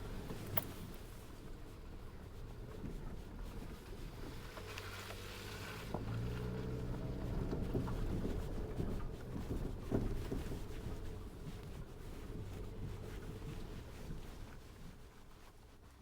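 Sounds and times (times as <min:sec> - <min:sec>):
car engine at low revs: 0:00.0 - 0:15.8.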